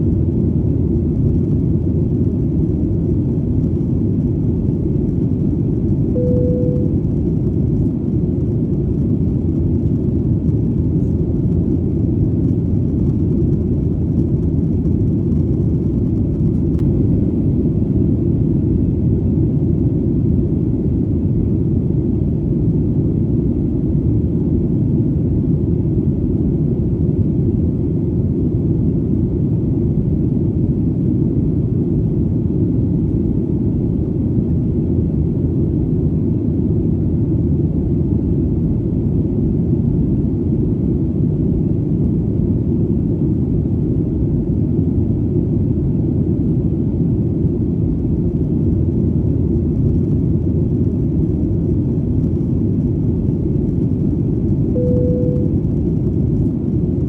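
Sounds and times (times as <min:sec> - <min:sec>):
airplane engine drone: 0:00.0 - 0:57.0.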